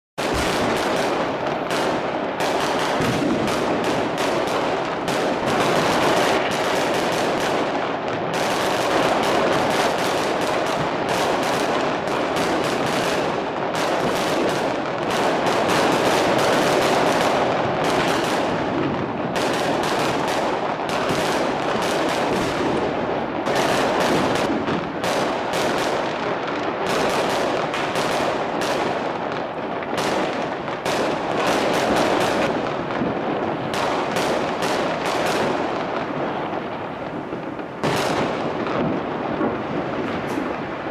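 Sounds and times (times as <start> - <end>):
fireworks crackling and banging: 0.2 - 40.9.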